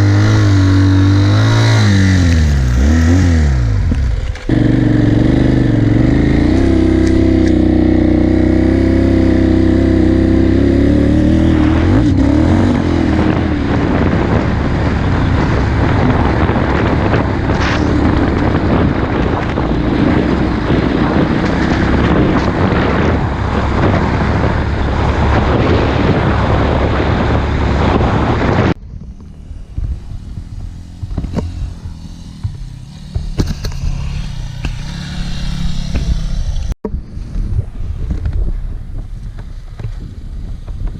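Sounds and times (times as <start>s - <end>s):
motorcycle engine running: 0.0s - 36.8s
wind noise: 0.0s - 40.9s.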